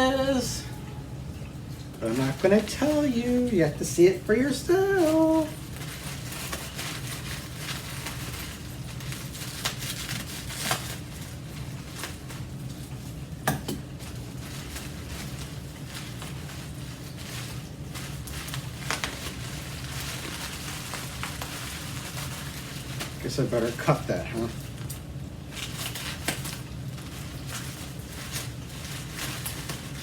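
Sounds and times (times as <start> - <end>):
packing material rustling: 0.0 - 30.0
steady low hum: 0.0 - 30.0.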